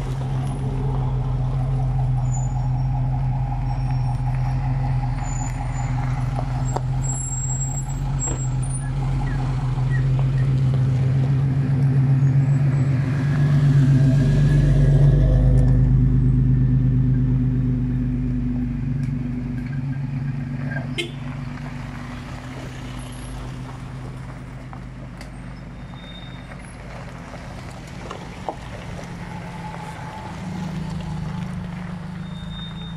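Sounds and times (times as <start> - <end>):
off-road vehicle engines: 0.0 - 32.9.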